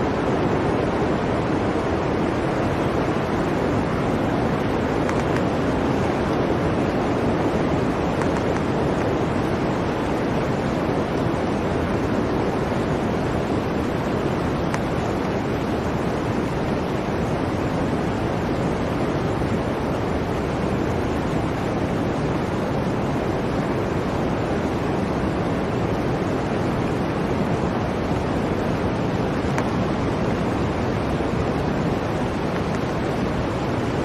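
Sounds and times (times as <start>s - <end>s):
blizzard wind blowing: 0.0s - 34.0s.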